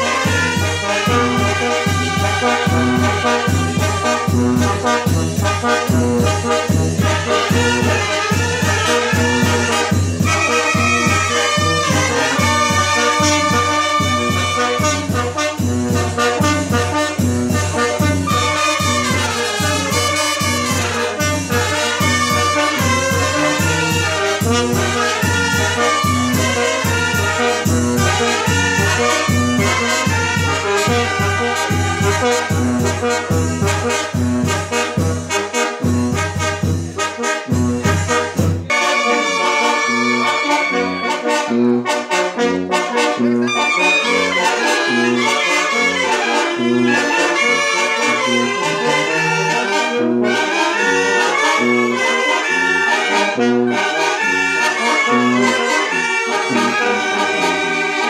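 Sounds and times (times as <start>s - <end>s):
wind band playing a tune: 0.0s - 58.0s.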